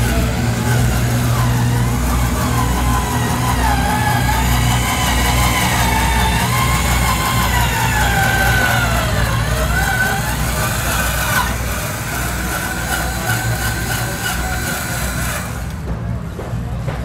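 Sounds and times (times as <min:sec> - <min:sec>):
electric motor and gearbox whining: 0:00.0 - 0:17.0.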